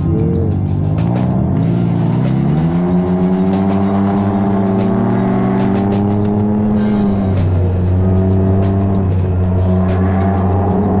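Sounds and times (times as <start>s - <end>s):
engine accelerating: 0.0s - 11.0s.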